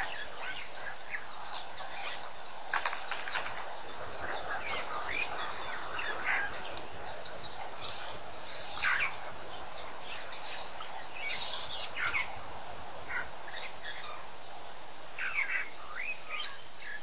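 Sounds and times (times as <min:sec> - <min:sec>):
birds chirping and squawking: 0:00.0 - 0:17.0
steady background hiss: 0:00.0 - 0:17.0.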